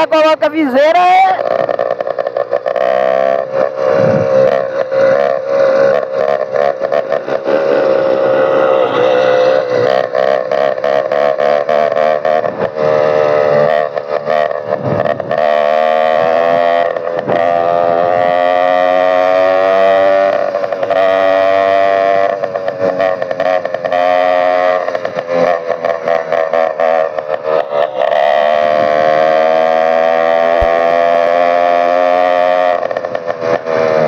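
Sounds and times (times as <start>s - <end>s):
motorized bicycle engine revving: 1.4s - 34.0s.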